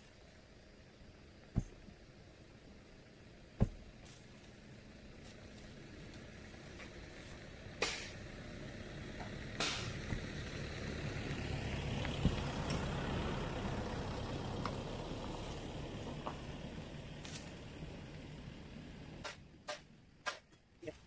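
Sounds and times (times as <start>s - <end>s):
pickup truck engine rumble: 0.0s - 20.2s.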